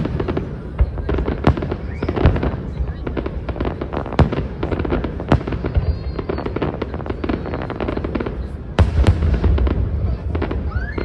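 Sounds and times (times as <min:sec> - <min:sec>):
fireworks crackling bursts: 0:00.0 - 0:11.0
loud firework bangs: 0:00.0 - 0:11.0.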